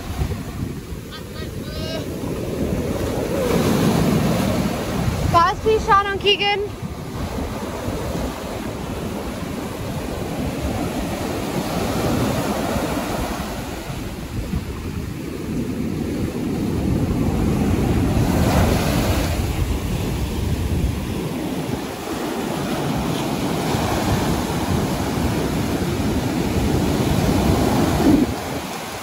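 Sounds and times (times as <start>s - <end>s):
surf breaking on a beach: 0.0s - 29.0s
wind buffeting the microphone: 0.0s - 29.0s.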